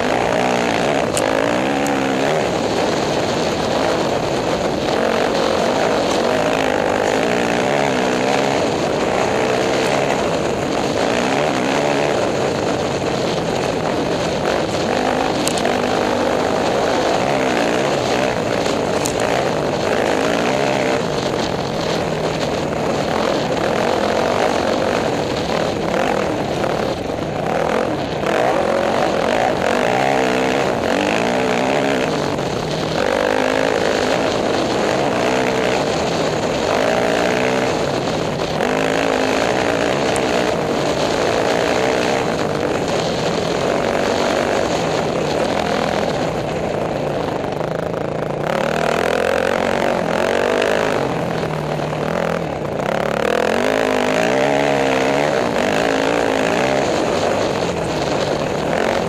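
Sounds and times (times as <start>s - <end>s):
dirt bike engine revving: 0.0s - 59.0s
rushing wind noise: 0.0s - 59.0s.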